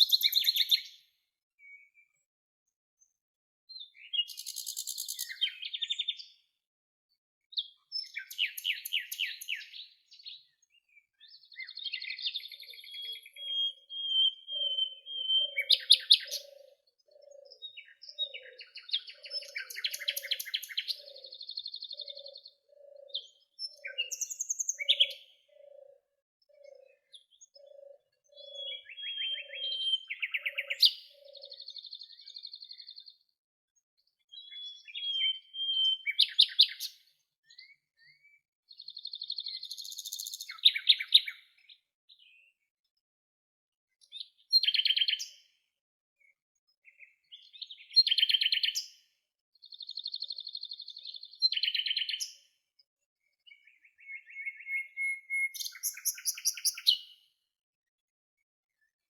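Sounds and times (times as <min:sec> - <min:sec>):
songbirds singing: 0:00.0 - 0:43.1, 0:43.9 - 0:59.0.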